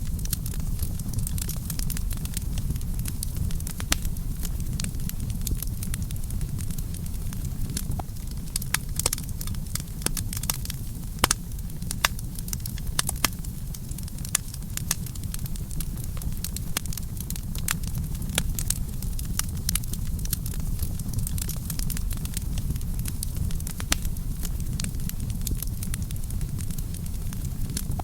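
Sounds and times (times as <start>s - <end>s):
campfire low rumble: 0.0s - 28.0s
fire crackling and popping: 0.0s - 28.0s.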